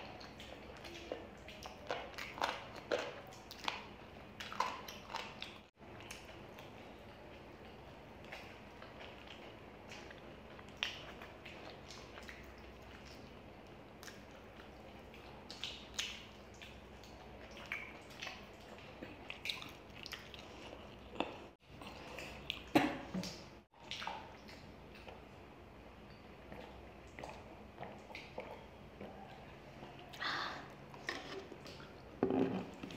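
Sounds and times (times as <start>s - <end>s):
wet chewing and lip smacks: 0.0s - 25.4s, 26.4s - 30.2s.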